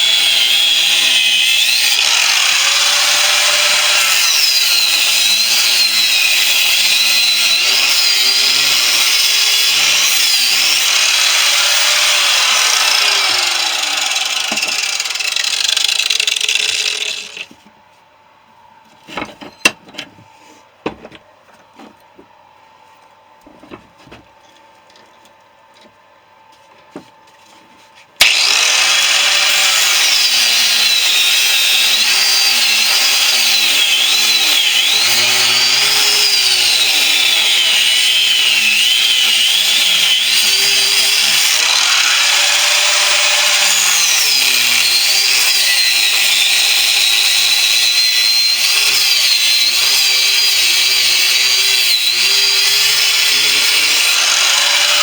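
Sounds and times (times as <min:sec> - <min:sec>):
angle grinder cutting steel: 0:00.0 - 0:17.5, 0:28.2 - 0:55.0.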